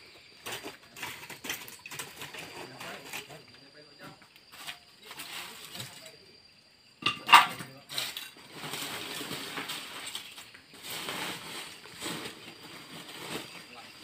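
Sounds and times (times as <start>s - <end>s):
charcoal lumps clinking: 0.4s - 3.6s, 4.5s - 6.2s, 7.0s - 14.0s.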